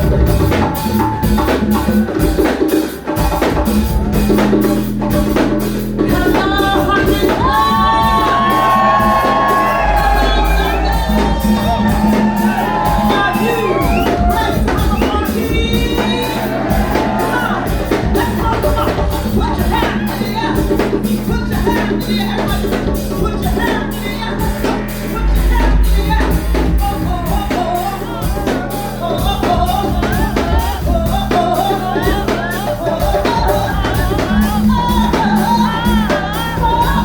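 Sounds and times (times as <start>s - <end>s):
bass line: 0.0s - 37.0s
drum kit beat: 0.0s - 37.0s
person singing: 6.0s - 37.0s.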